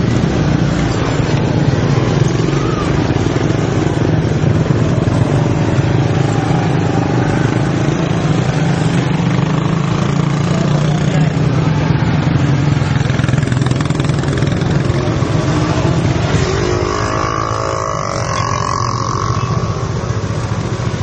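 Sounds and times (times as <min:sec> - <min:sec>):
motor vehicle engines droning: 0:00.0 - 0:21.0
motorcycle engine: 0:00.0 - 0:21.0
road and wind noise: 0:00.0 - 0:21.0.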